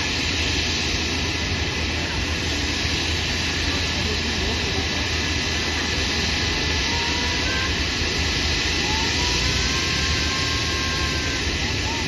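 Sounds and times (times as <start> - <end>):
jet engine starting up: 0.0 - 12.0.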